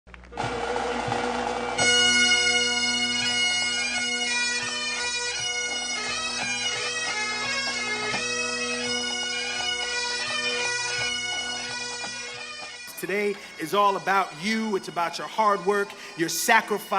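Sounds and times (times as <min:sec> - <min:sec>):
bagpipes playing a tune: 0:00.8 - 0:16.9.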